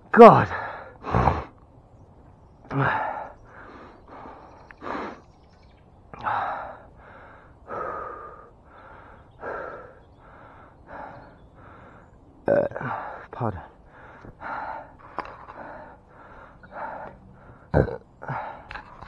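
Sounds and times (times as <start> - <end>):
man panting: 0.5 - 1.5, 2.7 - 5.3, 6.2 - 12.2, 12.8 - 18.7.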